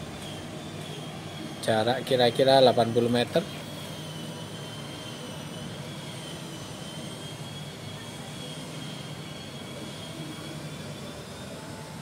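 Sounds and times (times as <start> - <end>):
background hum and hiss: 0.0 - 12.0
high steady whine: 0.0 - 12.0.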